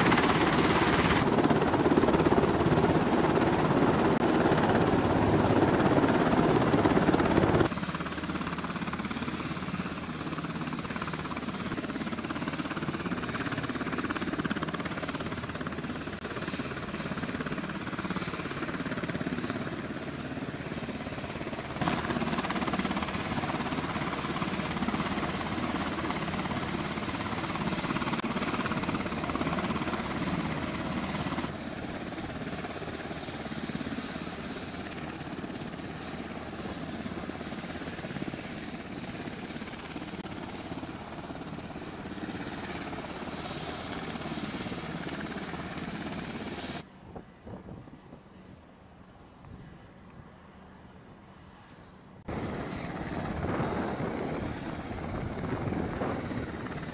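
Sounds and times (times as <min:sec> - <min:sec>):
helicopter turbine and rotor noise: 0:00.0 - 0:56.9.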